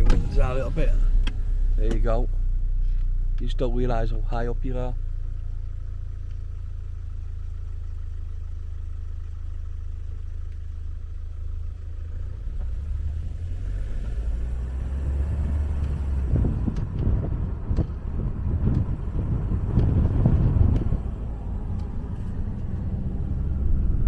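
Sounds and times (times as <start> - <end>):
car interior engine and road noise: 0.0 - 24.0.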